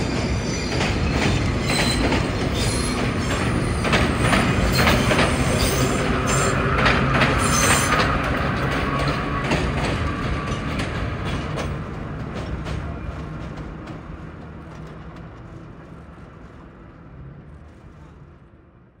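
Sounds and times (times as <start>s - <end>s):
subway train on rails: 0.0s - 19.0s.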